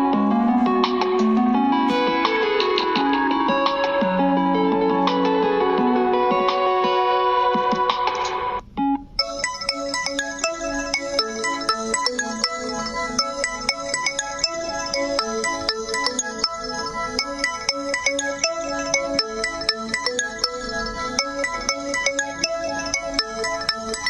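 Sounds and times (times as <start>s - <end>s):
ringtone melody of plucked notes: 0.0s - 24.0s.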